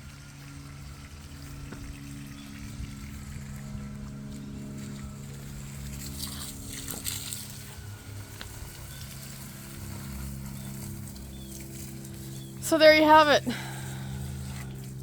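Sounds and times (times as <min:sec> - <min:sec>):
low hum of held tones: 0:00.0 - 0:15.0.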